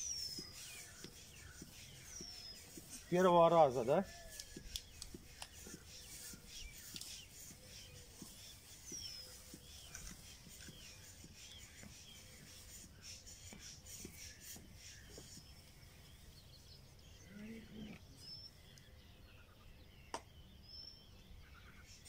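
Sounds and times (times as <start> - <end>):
faint birdsong chirps: 0.0 - 22.0.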